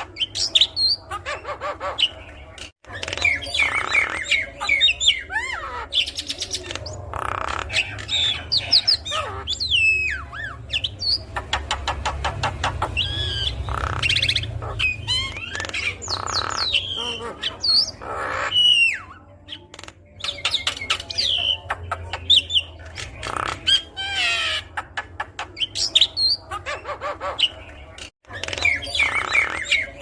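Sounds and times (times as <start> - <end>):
bird singing varied song: 0.0 - 30.0.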